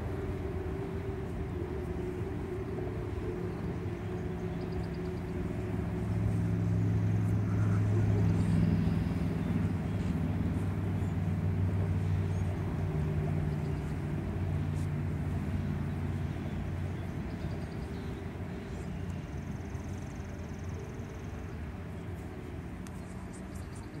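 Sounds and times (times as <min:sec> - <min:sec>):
low engine hum: 0:00.0 - 0:24.0.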